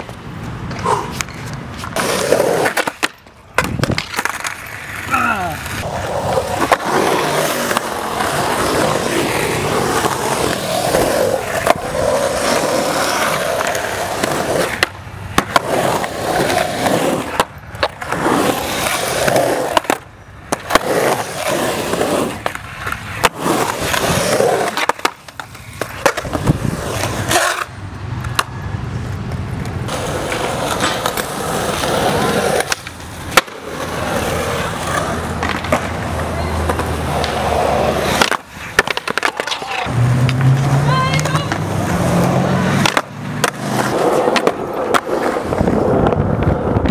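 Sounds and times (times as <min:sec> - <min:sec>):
skateboard clacking on concrete: 0:00.0 - 0:42.0, 0:42.6 - 0:46.9
skateboard wheels rolling on concrete: 0:00.0 - 0:46.9.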